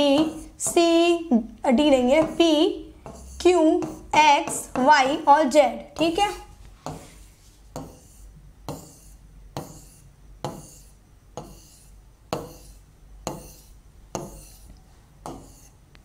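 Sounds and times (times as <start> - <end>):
pen tapping and rubbing on a screen: 0.0 - 15.9.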